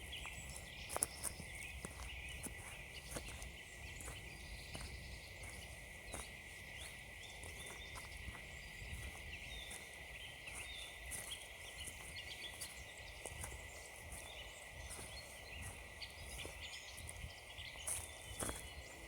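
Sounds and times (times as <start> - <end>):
faint birds chirping: 0.0 - 19.0
footsteps crunching on frozen ground: 0.0 - 19.0.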